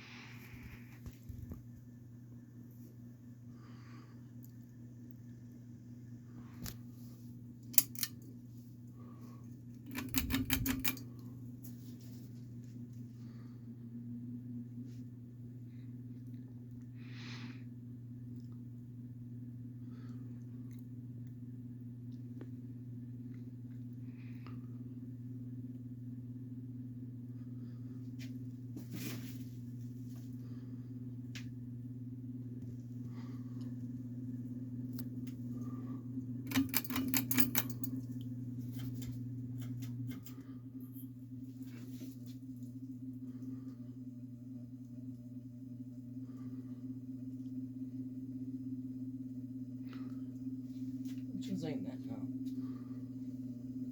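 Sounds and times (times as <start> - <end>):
ceiling fan motor hum: 0.0 - 53.9.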